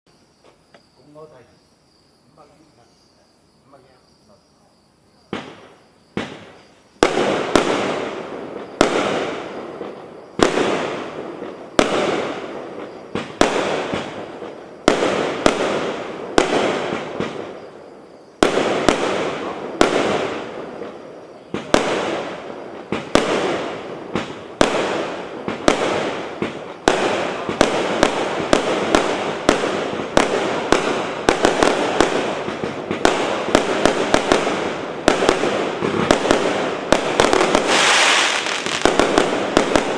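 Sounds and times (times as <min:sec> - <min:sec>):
firework cake bangs: 0:05.3 - 0:17.8, 0:18.4 - 0:39.9.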